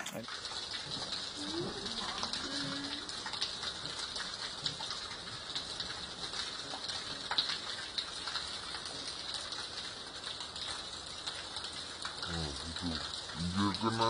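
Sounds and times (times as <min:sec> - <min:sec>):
steady rain: 0:00.0 - 0:14.0
water drips ticking: 0:00.0 - 0:14.0
water streams splashing on ground: 0:00.0 - 0:14.0.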